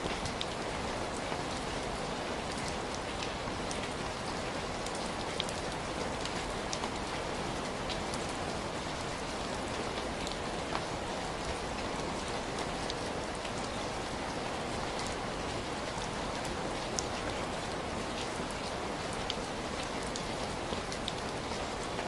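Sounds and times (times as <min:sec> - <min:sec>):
raindrops pattering on a surface: 0:00.0 - 0:22.0
steady rain: 0:00.0 - 0:22.0.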